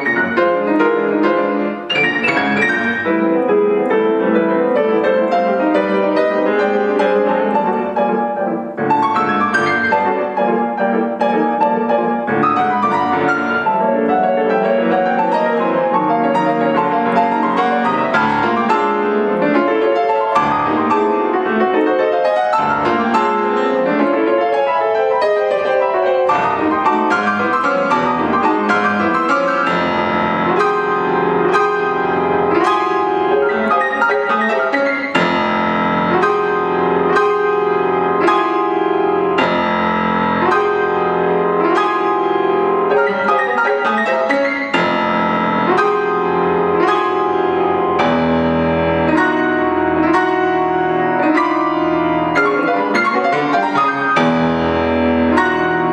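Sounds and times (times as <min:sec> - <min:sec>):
grand piano chords: 0:00.0 - 0:55.9.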